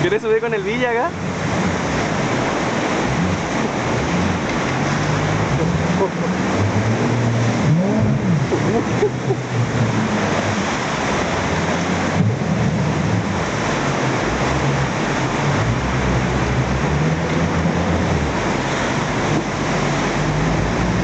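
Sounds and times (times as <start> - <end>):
boat engine droning: 0.0 - 21.0
waterfall and rapids rushing: 0.0 - 21.0.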